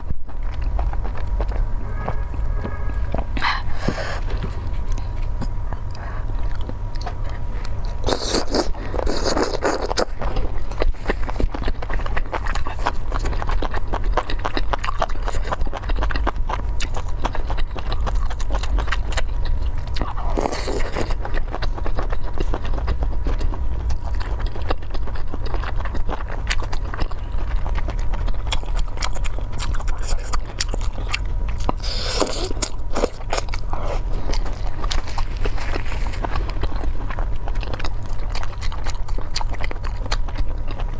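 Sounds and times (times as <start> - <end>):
low hum: 0.0 - 40.9
person chewing food: 0.0 - 40.9.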